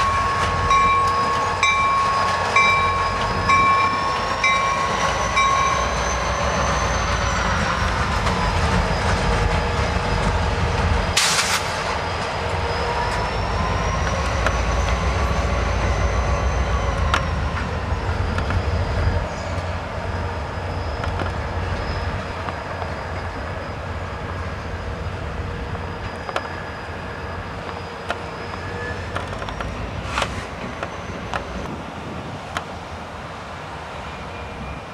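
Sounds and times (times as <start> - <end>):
train wheels squealing: 0.0 - 31.7, 33.9 - 34.9
freight train rumbling and clattering: 0.0 - 34.9.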